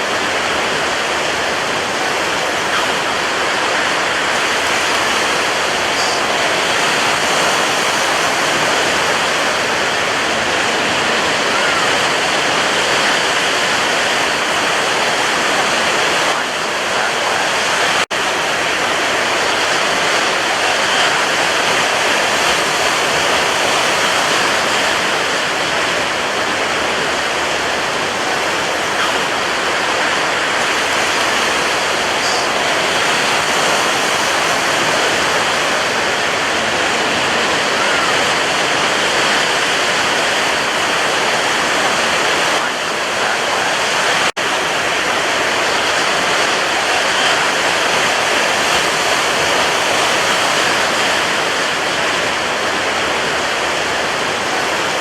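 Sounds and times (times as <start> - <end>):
surf rushing: 0.0 - 55.0.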